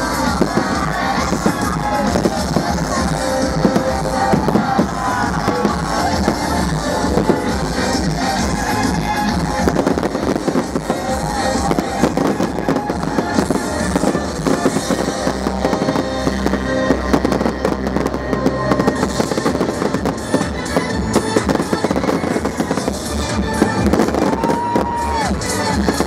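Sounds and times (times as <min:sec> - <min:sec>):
fireworks bangs and crackles: 0:00.0 - 0:26.0
loud music: 0:00.0 - 0:26.0.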